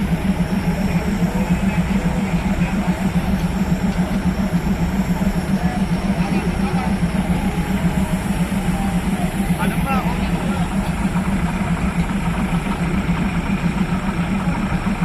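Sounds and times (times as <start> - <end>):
diesel engine idling: 0.0 - 15.0
faint voices: 0.0 - 15.0.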